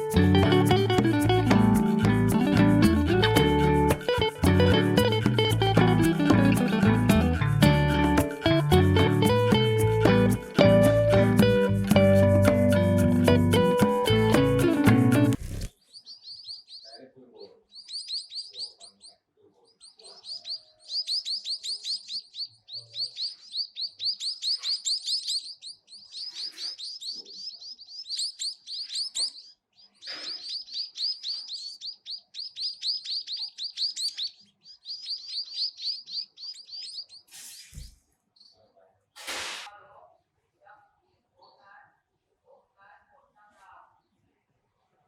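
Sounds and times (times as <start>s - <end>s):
small birds chirping: 0.0s - 39.1s, 41.4s - 41.8s.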